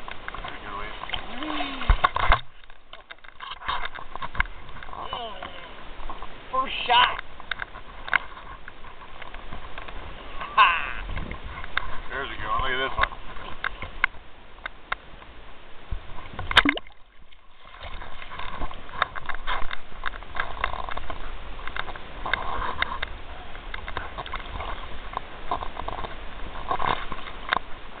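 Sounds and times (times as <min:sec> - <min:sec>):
ocean water splashing: 0:00.0 - 0:12.1, 0:15.9 - 0:28.0.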